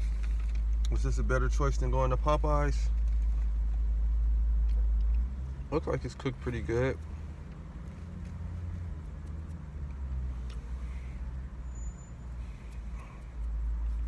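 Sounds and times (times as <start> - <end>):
motor vehicles rumbling: 0.0 - 14.0.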